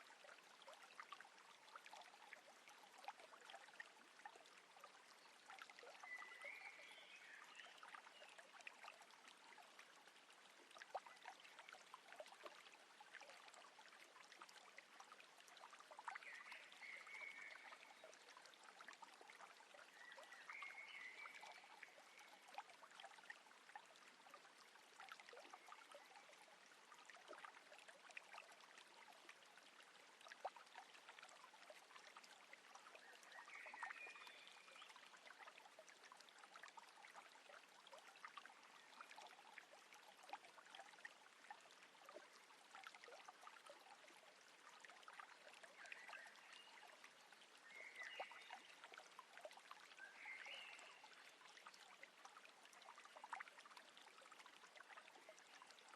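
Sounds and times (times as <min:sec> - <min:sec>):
drips and splashes: 0:00.0 - 0:55.9.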